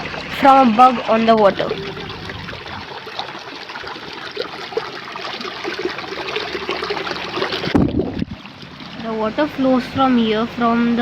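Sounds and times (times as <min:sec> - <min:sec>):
water trickling in a channel: 0:00.0 - 0:11.0.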